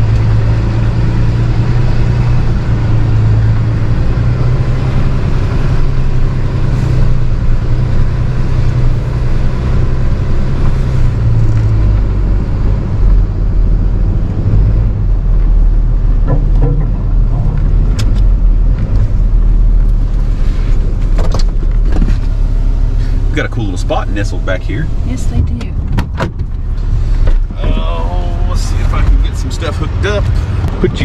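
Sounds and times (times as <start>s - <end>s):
tow truck engine running: 0.0s - 31.0s.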